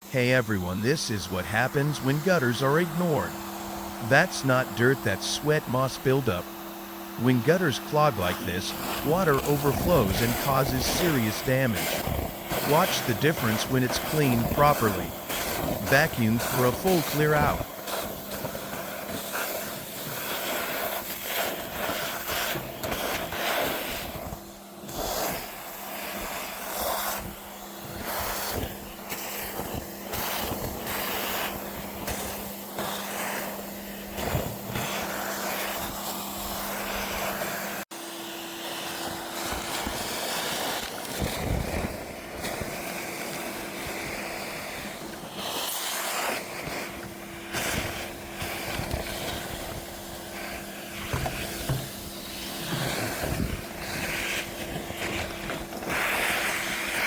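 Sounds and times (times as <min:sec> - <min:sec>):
vacuum humming: 0:00.0 - 0:57.0.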